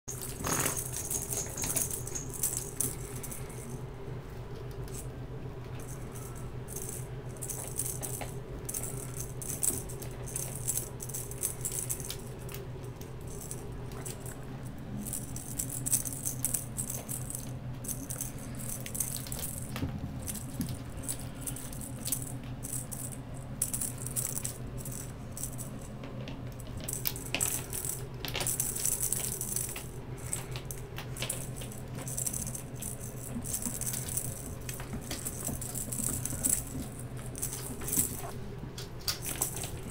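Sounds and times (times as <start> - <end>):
steady low hum: 0.0 - 39.9
cat toy rattling: 0.1 - 3.8, 5.8 - 38.4, 39.0 - 39.9.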